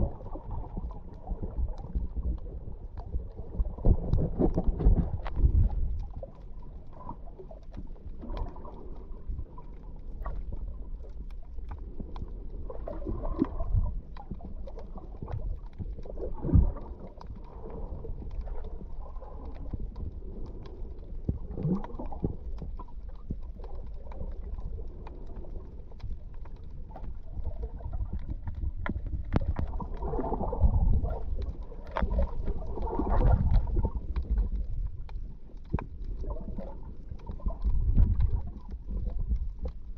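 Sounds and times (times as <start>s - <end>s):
underwater gurgles: 0.0s - 39.9s
underwater rumble of moving water: 0.0s - 39.9s.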